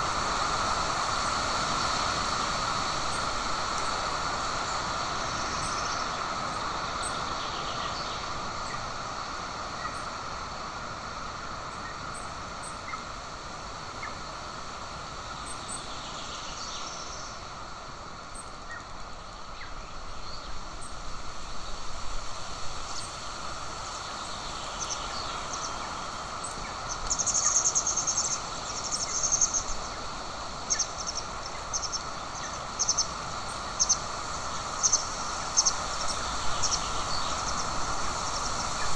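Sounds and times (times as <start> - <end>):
wind hiss on microphone: 0.0 - 38.9.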